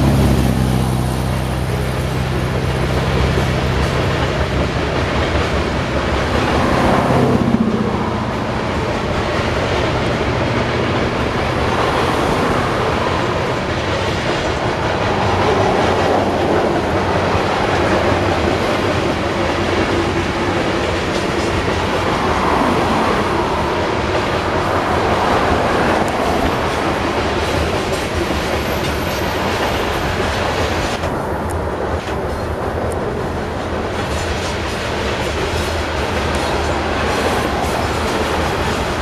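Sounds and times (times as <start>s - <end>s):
freight train wheels clacking: 0.0s - 39.0s.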